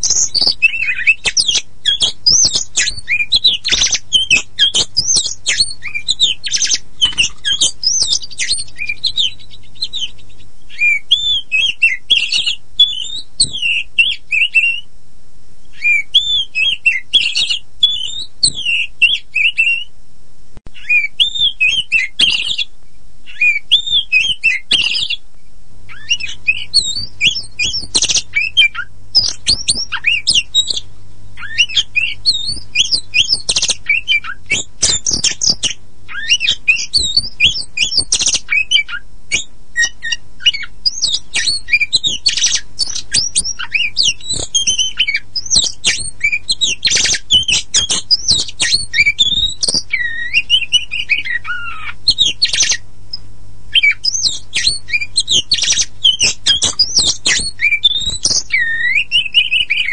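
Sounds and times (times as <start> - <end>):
songbird whistles and trills: 0.0 - 14.9, 15.7 - 19.9, 20.7 - 25.2, 25.9 - 59.9.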